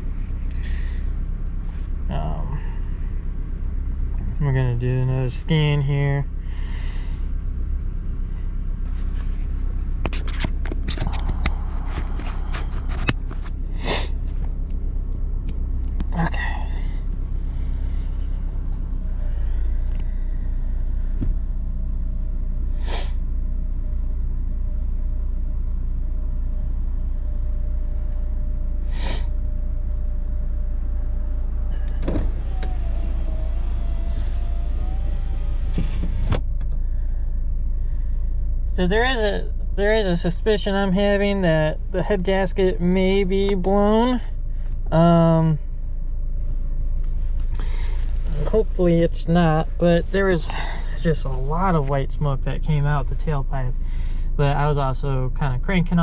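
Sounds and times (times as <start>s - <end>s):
car engine idling: 0.0s - 56.0s
faint steady whine: 0.0s - 56.0s.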